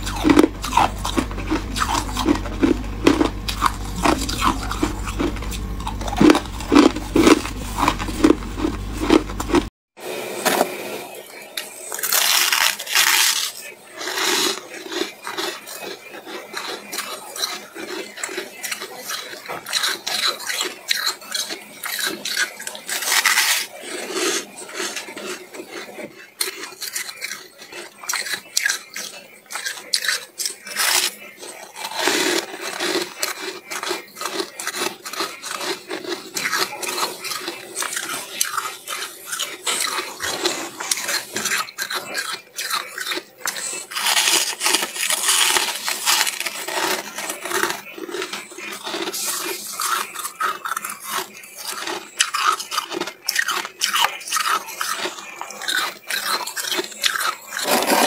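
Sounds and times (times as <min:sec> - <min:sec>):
frost crunching: 0:00.0 - 0:09.7, 0:10.4 - 0:58.0.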